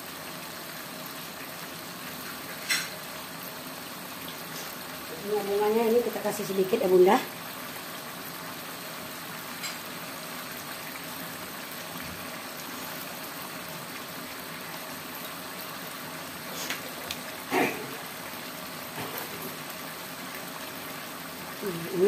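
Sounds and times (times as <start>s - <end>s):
sauce simmering in a wok: 0.0s - 22.0s.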